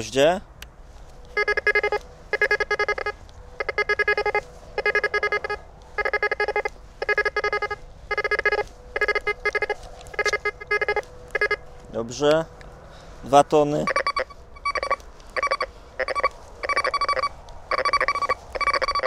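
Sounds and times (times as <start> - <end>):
metal detector quick beeps: 1.3 - 11.6, 13.8 - 19.0.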